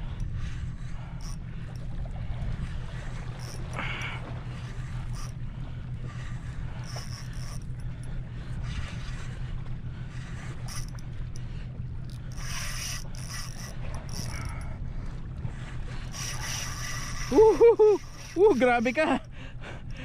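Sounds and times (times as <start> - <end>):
fishing reel drag buzzing: 0.0 - 14.8, 15.5 - 20.0
steady low rumble: 0.0 - 20.0.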